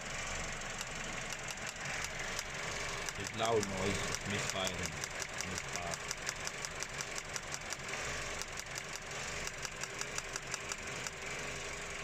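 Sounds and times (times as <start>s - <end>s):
misfiring engine idling with ticks: 0.0s - 12.0s.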